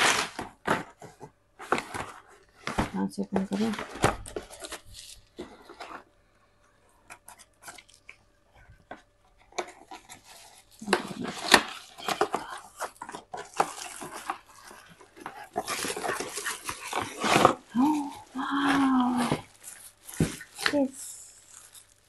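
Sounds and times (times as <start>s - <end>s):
scraping and tearing: 0.0s - 6.1s, 6.9s - 22.0s
cardboard rustling: 0.0s - 22.0s.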